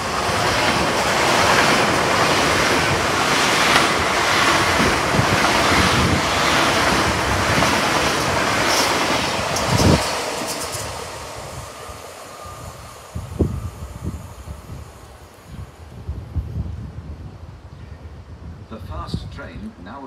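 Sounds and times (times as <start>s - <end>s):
rush of wheels on rails: 0.0s - 17.4s
train passing: 0.0s - 18.4s.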